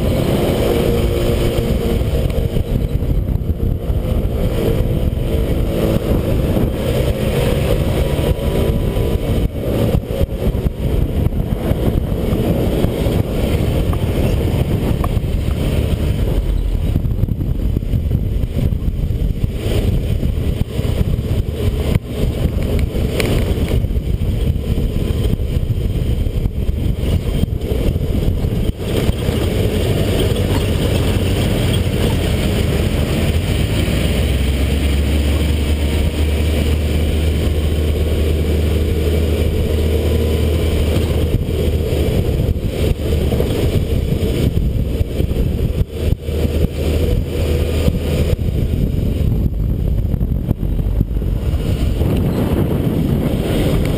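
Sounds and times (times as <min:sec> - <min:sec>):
atv engine running: 0:00.0 - 0:53.9
road rumble: 0:00.0 - 0:53.9.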